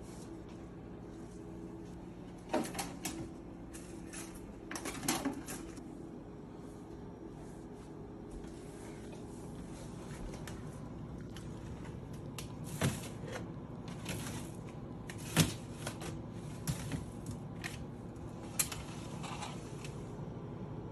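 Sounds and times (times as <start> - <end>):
refrigerator hum: 0.0 - 20.9.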